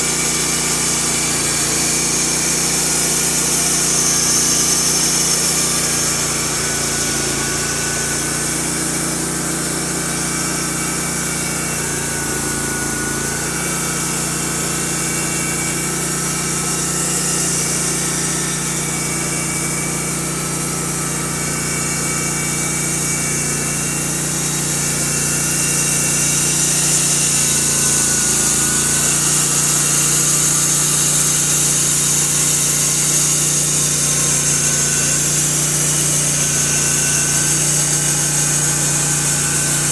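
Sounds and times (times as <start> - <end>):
hiss of sawing: 0.0 - 39.9
sawmill engine running: 0.0 - 39.9.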